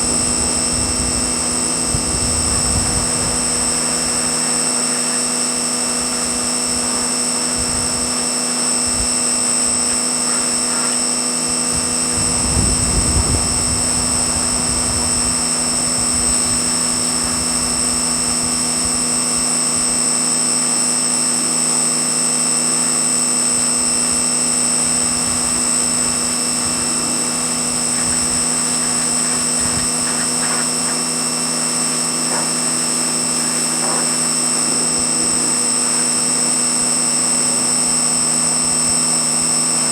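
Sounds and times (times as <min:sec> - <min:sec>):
pressure washer running: 0:00.0 - 0:39.9.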